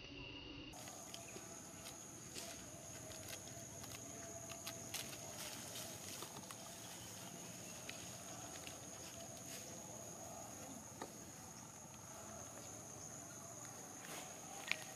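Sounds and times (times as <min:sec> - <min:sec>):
high-pitched insect drone: 0:00.0 - 0:14.9.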